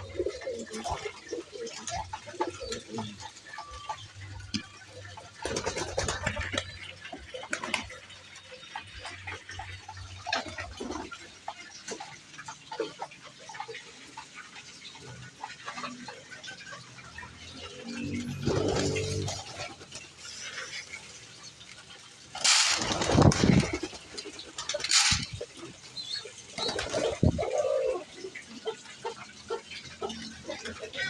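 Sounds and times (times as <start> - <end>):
pigeons scraping and clicking: 0.0 - 31.0.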